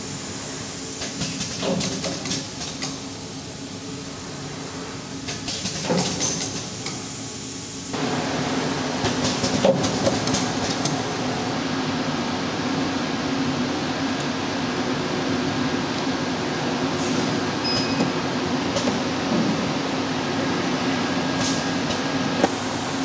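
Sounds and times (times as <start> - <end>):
machine mechanical hum: 0.0 - 23.0.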